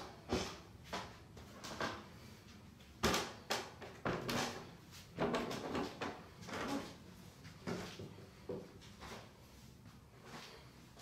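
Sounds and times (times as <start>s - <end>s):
footsteps on stairs and floor: 0.0s - 11.0s.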